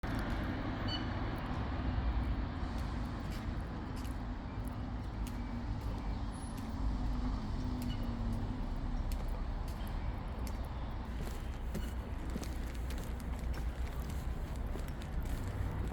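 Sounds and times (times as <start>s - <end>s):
road traffic rumble: 0.0s - 15.9s.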